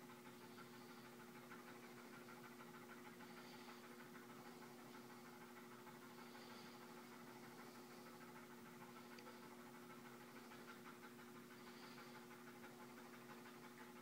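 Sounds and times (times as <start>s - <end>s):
dog panting: 0.0s - 14.0s
low electrical hum: 0.0s - 14.0s.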